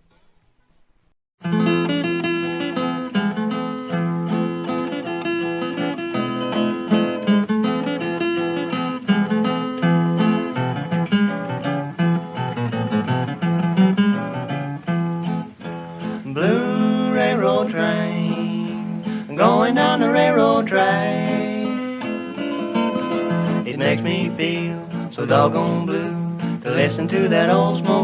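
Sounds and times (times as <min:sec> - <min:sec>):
acoustic guitar picking: 0:00.0 - 0:28.0.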